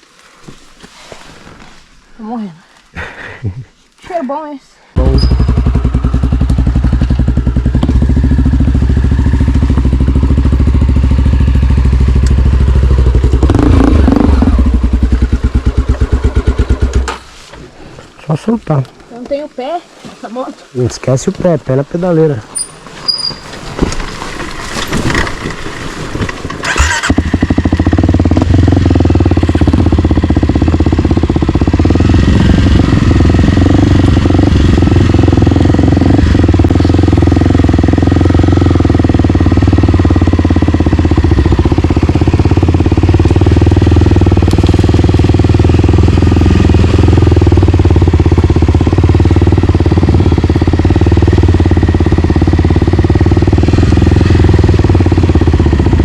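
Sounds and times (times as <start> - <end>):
dirt bike engine running: 5.0 - 17.3, 21.1 - 56.0.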